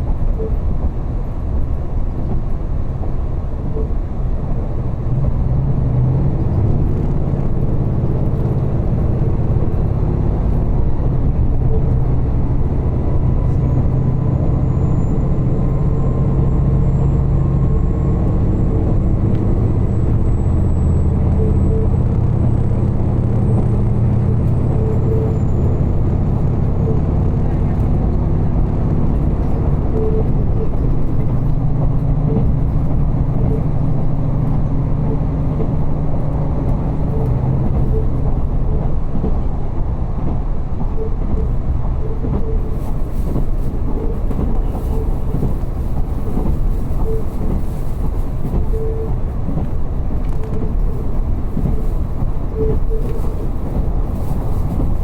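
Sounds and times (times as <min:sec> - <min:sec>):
railcar engine drone: 0:00.0 - 0:55.0
wheel and track rumble: 0:00.0 - 0:55.0.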